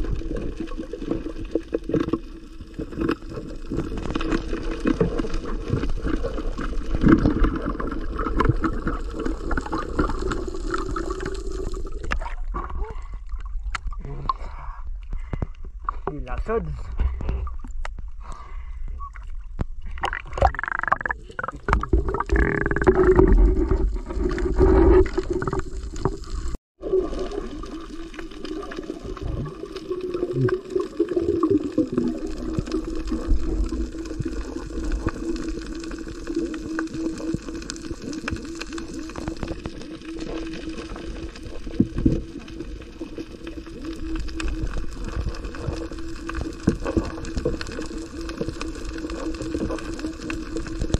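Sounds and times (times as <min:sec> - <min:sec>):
underwater gurgling and bubbling: 0:00.0 - 0:15.3, 0:19.1 - 0:50.9.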